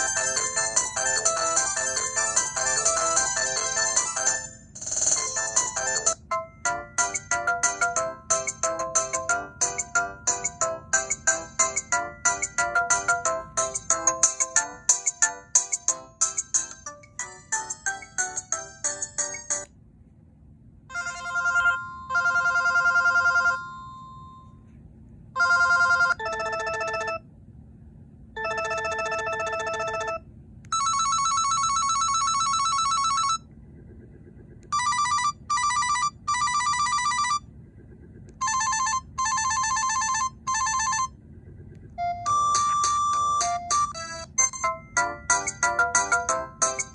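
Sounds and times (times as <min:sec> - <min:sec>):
electronic ringtone beeping tunes: 0:00.0 - 0:19.7, 0:20.9 - 0:24.5, 0:28.4 - 0:33.4, 0:34.7 - 0:37.4, 0:38.4 - 0:41.1, 0:42.0 - 0:46.9.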